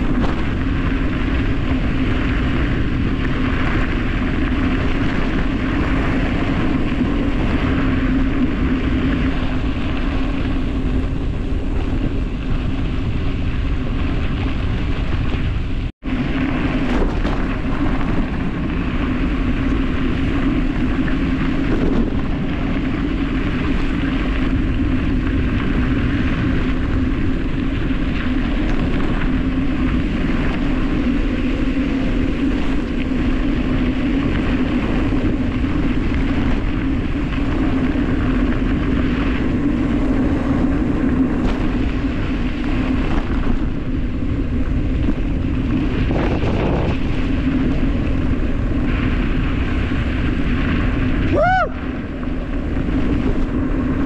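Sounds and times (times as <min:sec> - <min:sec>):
tyres rumbling on dirt road: 0:00.0 - 0:54.0
wind noise on microphone: 0:00.0 - 0:54.0.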